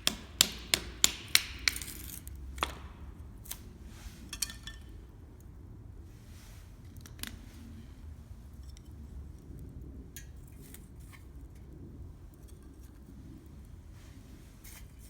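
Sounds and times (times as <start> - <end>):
low rumble of burning fire: 2.4 - 15.0.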